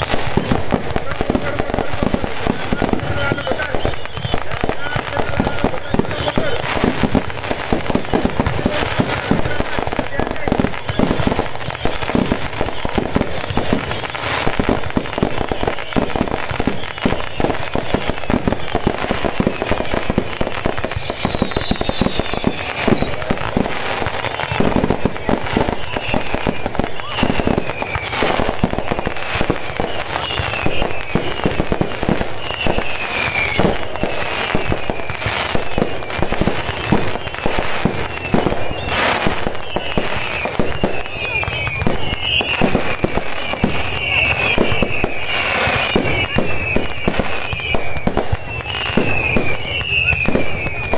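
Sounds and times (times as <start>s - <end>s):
firecrackers crackling: 0.0s - 50.9s
fireworks falling whistles: 0.0s - 50.9s.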